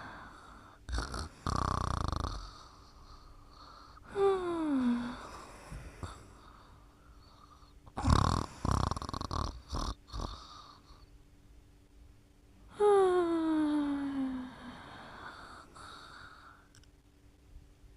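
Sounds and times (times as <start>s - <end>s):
person snoring: 0.0s - 11.1s, 12.7s - 16.7s.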